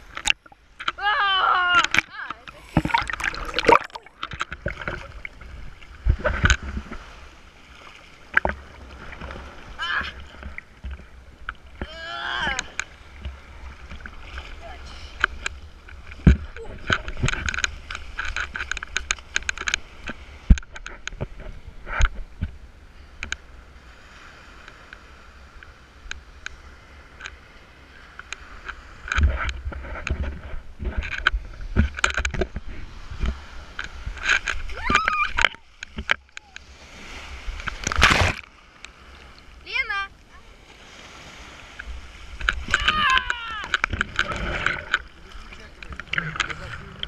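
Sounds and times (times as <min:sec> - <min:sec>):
faint surf: 0:00.0 - 0:47.0
sea waves splashing: 0:00.0 - 0:47.0.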